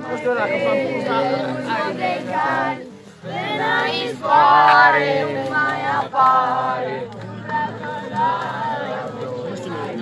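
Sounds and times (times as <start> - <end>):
children singing together: 0.0 - 10.0.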